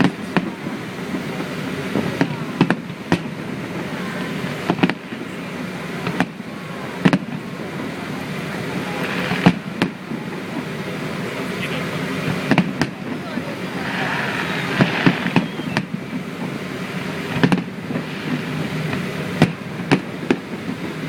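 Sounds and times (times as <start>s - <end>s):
background murmur: 0.0s - 21.0s
fireworks bangs: 0.0s - 21.0s.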